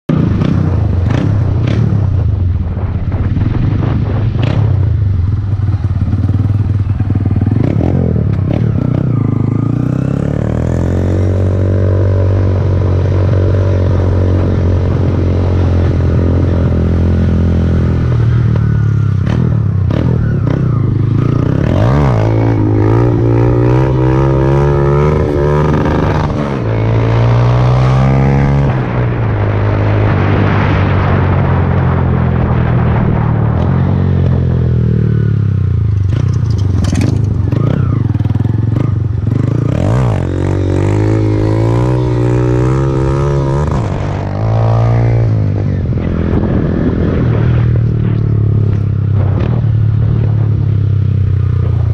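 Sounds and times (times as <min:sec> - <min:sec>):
motorcycle engine accelerating: 0:00.1 - 0:51.9.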